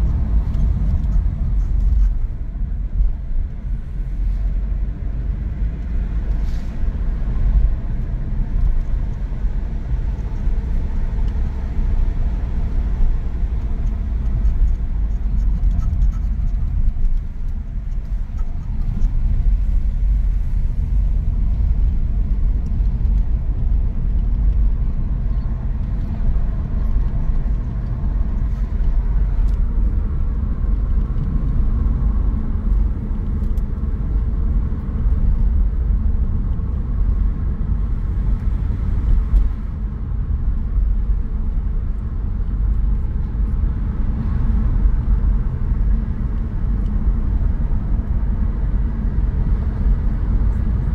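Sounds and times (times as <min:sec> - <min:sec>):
car road and engine rumble: 0:00.0 - 0:50.9.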